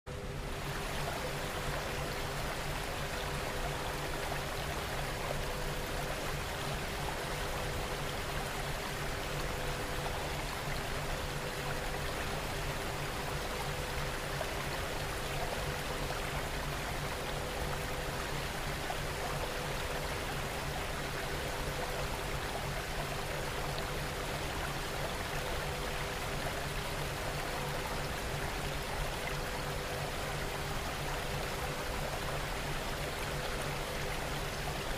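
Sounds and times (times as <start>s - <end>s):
steady rain hiss: 0.2s - 34.9s.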